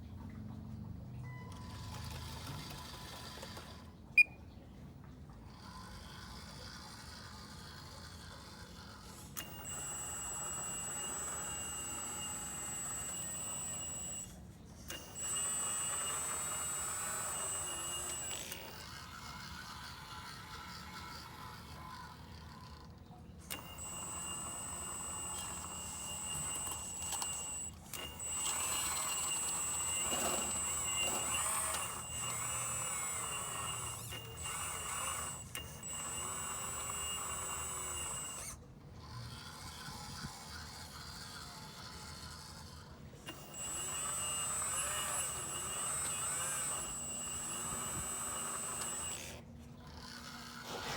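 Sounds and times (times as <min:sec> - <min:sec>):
hydraulic pump whine: 0:06.2 - 0:22.8, 0:23.4 - 0:50.9.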